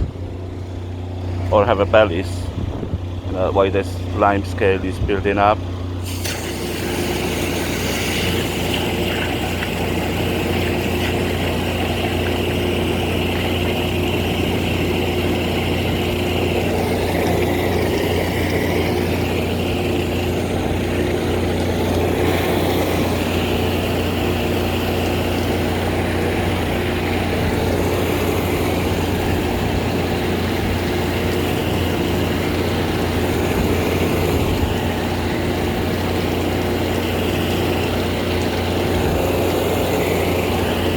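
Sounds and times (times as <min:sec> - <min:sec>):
engine and pump drone: 0:00.0 - 0:40.9
water jet hissing: 0:05.7 - 0:40.9.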